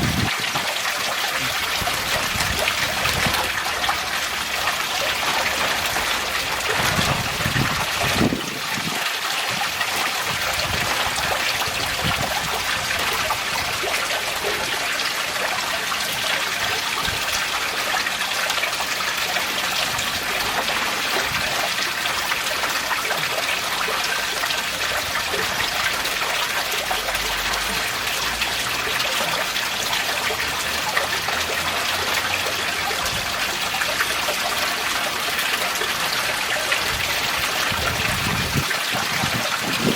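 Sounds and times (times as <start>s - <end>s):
pond water trickling: 0.0s - 39.9s.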